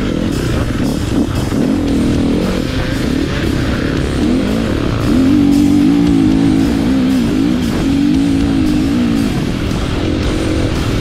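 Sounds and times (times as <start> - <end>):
dirt bike engine running: 0.0 - 11.0
rock music with guitar: 0.0 - 11.0.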